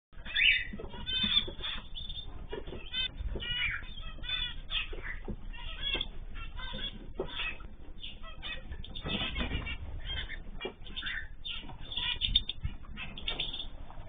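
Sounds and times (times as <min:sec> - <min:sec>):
cage birds chirping and squawking: 0:00.2 - 0:14.0.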